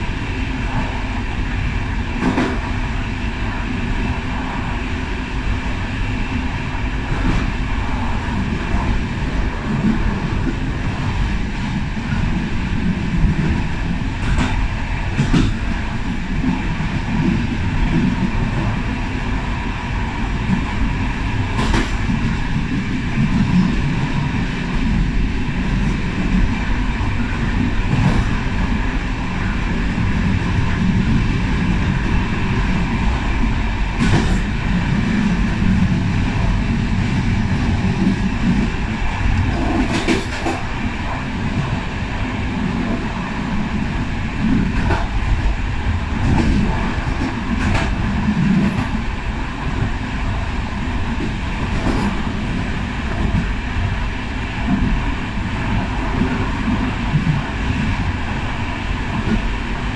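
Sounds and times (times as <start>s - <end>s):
sharp clicks of train: 0.0s - 59.9s
train wheels rumbling on rails: 0.0s - 59.9s.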